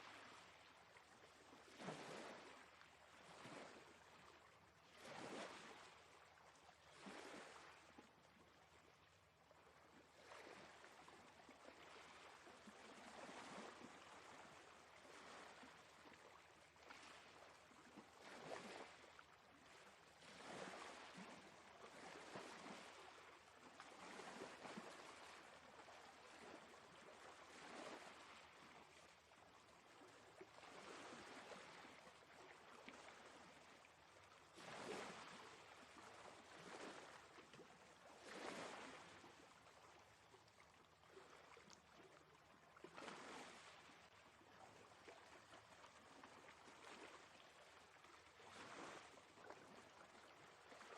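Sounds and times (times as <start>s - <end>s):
sea water lapping: 0.0s - 8.1s, 9.6s - 50.9s.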